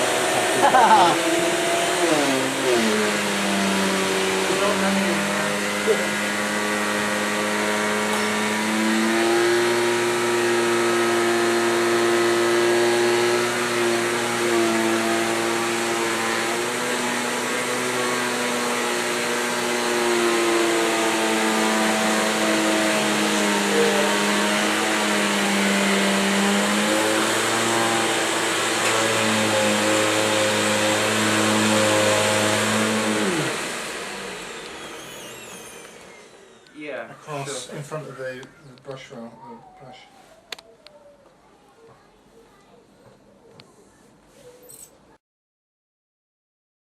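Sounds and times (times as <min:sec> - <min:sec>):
vacuum cleaner motor whine: 0:00.0 - 0:38.0.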